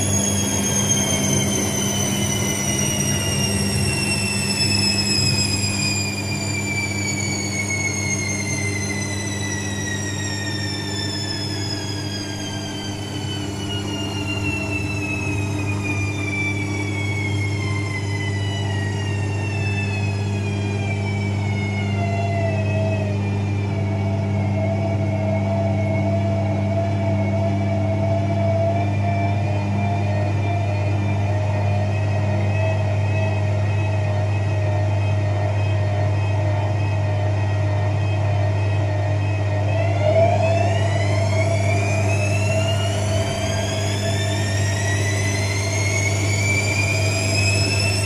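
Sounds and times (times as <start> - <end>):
high whine falling in pitch: 0.0 - 48.0
washing machine motor hum: 0.0 - 48.0.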